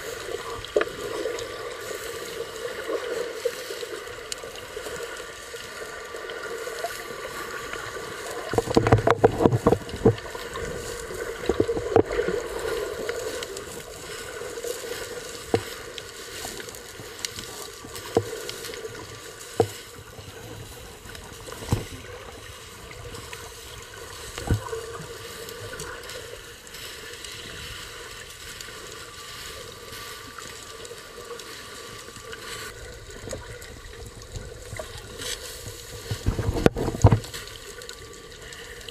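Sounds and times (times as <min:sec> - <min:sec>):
faint steady tones: 0:00.0 - 0:36.3
muffled underwater hum: 0:00.0 - 0:38.9.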